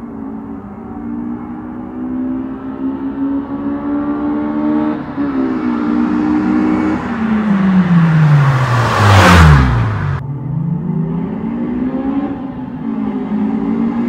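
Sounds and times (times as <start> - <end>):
car exhaust passing at speed: 0.9 - 14.0.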